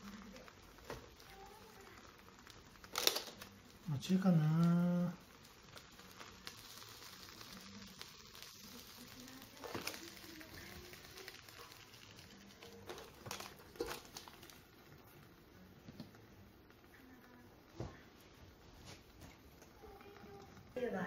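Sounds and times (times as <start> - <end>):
food sizzling on a hot plate: 0.0 - 21.0.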